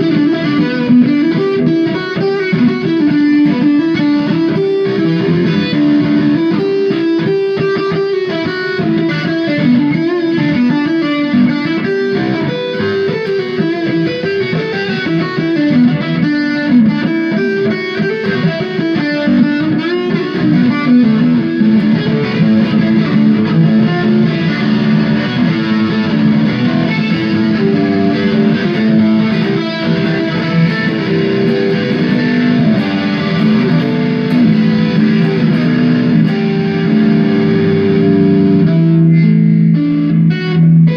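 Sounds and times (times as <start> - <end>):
electric guitar lead lines: 0.0 - 40.9.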